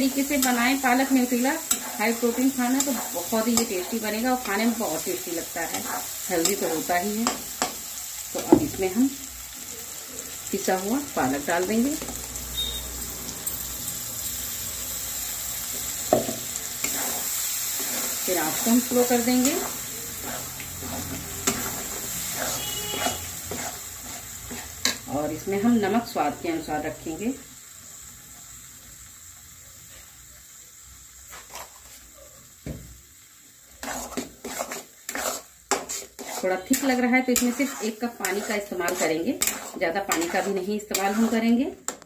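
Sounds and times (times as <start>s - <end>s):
curry sizzling in a pan: 0.0s - 42.0s.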